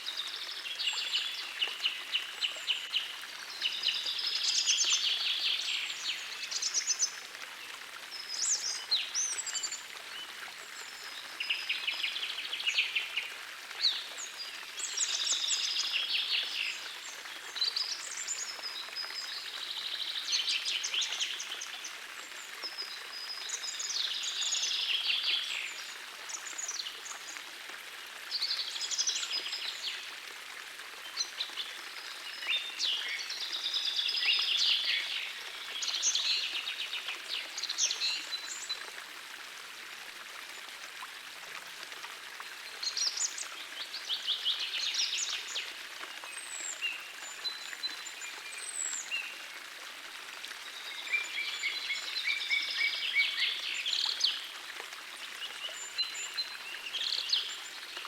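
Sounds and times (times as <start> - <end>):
gentle stream rushing: 0.0 - 58.0.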